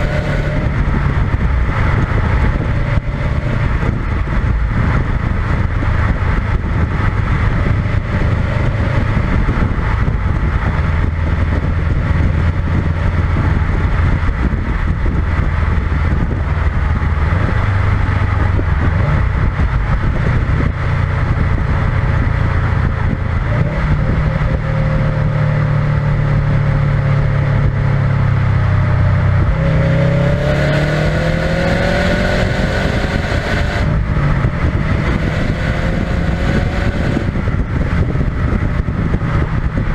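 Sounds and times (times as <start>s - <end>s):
car engine cruising: 0.0s - 39.9s
road and wind noise: 0.0s - 39.9s.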